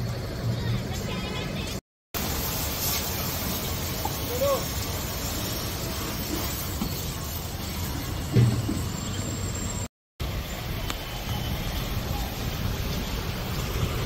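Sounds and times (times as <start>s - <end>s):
pressure washer spraying water: 2.2s - 14.0s.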